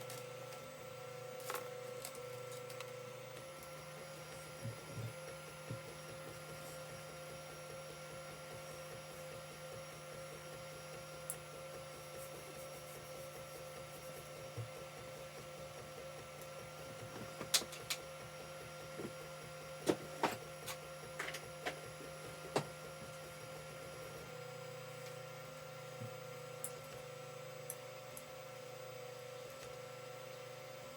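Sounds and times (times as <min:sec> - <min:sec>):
printer stepper motors whining: 0:00.0 - 0:30.9.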